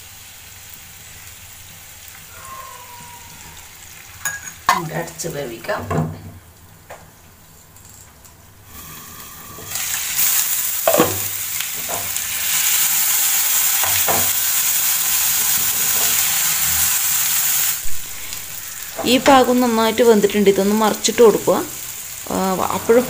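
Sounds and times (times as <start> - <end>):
fish sizzling in oil: 0.0 - 5.5, 8.6 - 23.0.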